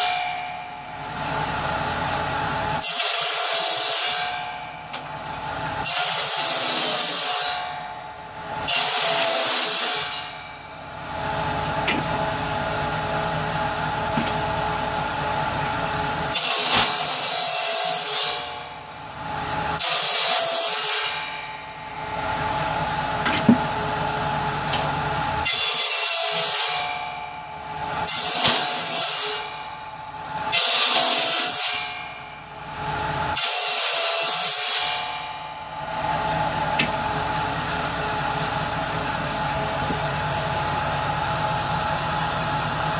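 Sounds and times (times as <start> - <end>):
saw cutting wood: 0.0 - 42.9.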